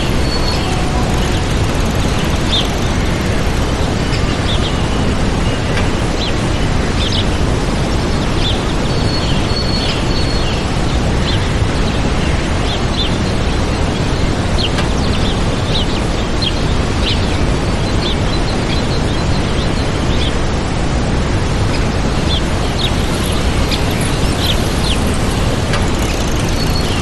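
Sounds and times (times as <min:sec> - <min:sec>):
small birds chirping: 0:00.0 - 0:20.4, 0:21.7 - 0:27.0
waterfall roaring: 0:00.0 - 0:27.0.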